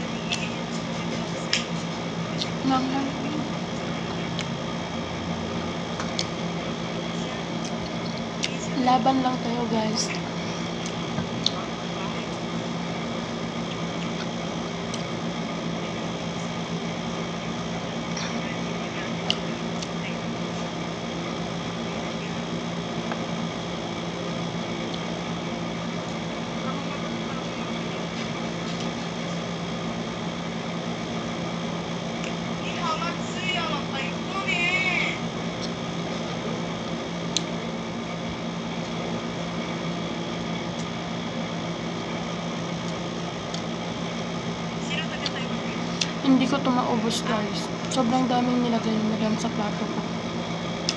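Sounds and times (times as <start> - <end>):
air conditioner humming: 0.0 - 50.9.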